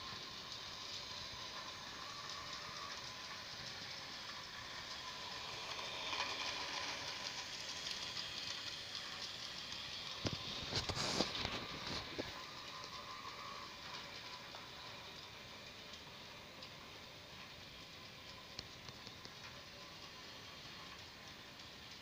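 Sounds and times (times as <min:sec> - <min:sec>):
model train motor whirring: 0:00.0 - 0:22.0.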